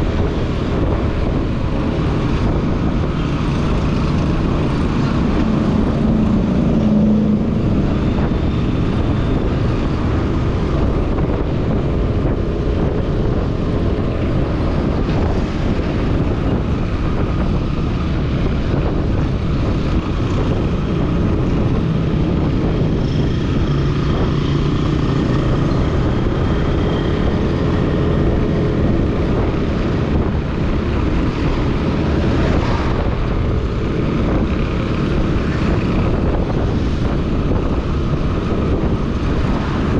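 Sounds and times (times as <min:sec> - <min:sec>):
motorbike engine and road rumble: 0:00.0 - 0:39.9
wind buffeting microphone: 0:00.0 - 0:39.9.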